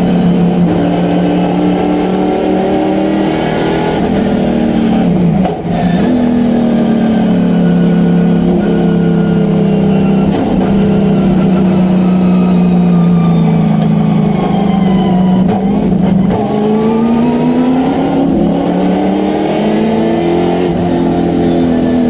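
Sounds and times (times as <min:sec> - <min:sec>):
race car engine from inside cabin: 0:00.0 - 0:22.0.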